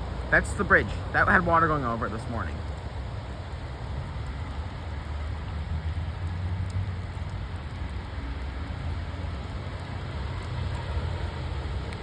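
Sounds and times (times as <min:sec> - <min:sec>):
fast water rushing: 0:00.0 - 0:12.0.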